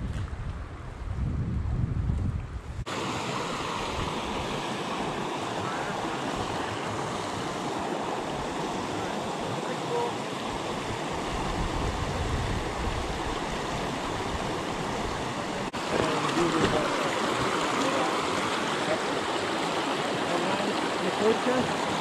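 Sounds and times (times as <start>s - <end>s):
stream rushing over rocks: 2.8s - 22.0s.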